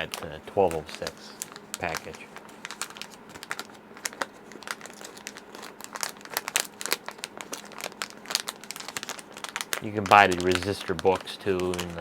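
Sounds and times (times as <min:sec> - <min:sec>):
plastic pages crinkling: 0:00.0 - 0:12.0.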